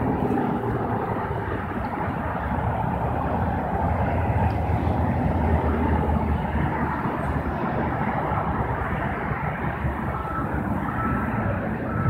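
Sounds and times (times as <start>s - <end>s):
diesel engine running low: 0.0s - 12.0s.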